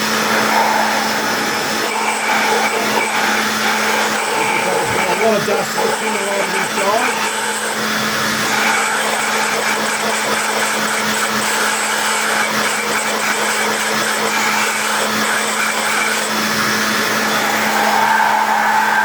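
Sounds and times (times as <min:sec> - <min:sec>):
garden blower running: 0:00.0 - 0:19.0.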